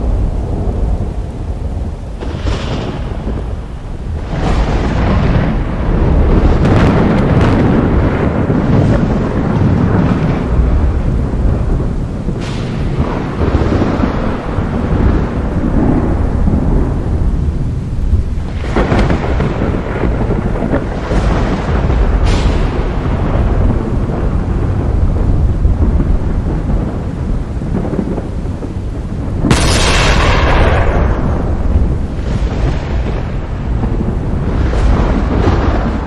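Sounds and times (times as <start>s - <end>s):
sharp crackling thunder peals: 0.0s - 36.0s
thunder rumbling: 0.0s - 36.0s.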